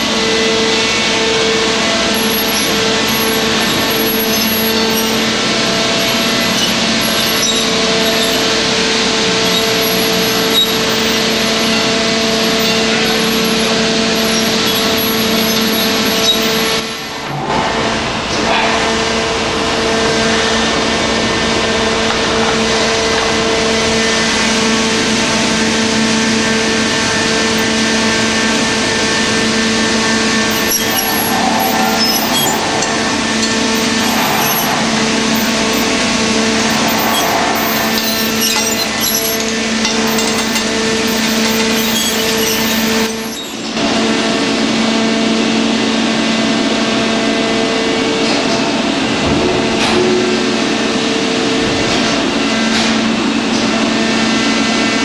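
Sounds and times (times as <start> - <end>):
bending machine humming: 0.0 - 55.0.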